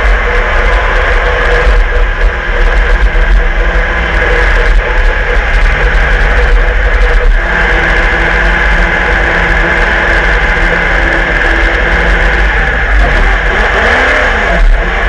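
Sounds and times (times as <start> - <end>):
race car engine at speed: 0.0 - 15.0
road and wind noise: 0.0 - 15.0.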